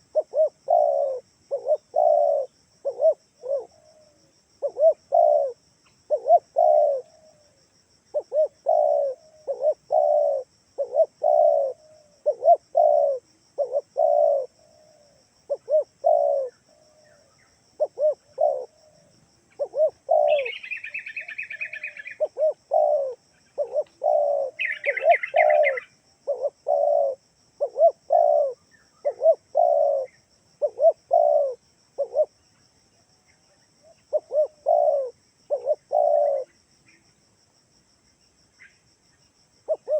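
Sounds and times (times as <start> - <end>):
dove cooing: 0.0 - 32.6, 33.3 - 36.6, 39.7 - 39.9
bird chirping: 0.1 - 37.2.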